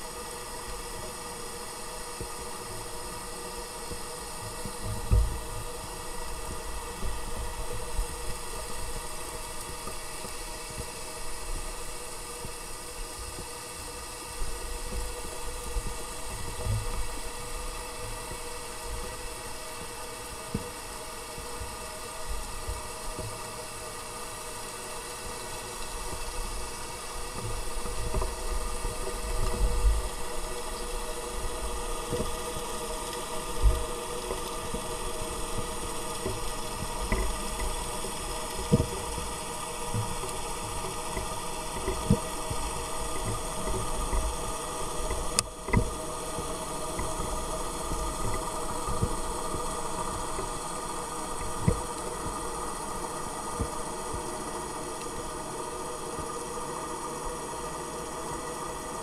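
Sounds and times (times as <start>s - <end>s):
ship engines drone underwater: 0.0s - 59.0s.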